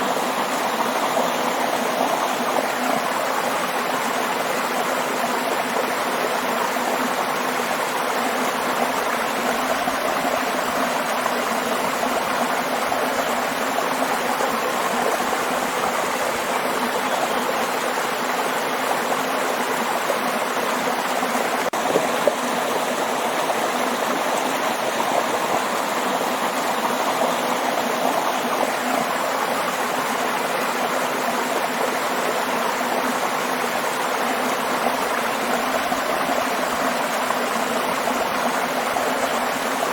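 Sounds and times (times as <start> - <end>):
waterfall water rushing: 0.0 - 39.9.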